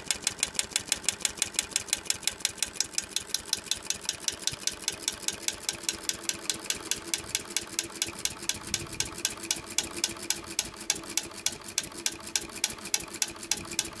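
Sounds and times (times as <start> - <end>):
small engine clattering: 0.0 - 14.0.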